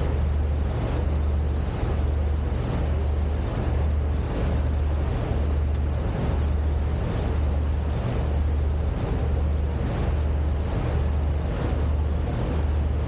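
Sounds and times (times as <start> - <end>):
boat engine droning: 0.0 - 13.0
water rushing past hull: 0.0 - 13.0.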